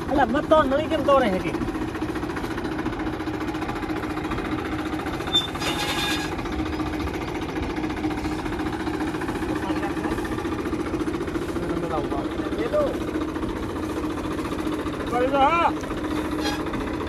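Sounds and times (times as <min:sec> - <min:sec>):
tractor engine throbbing: 0:00.0 - 0:17.0.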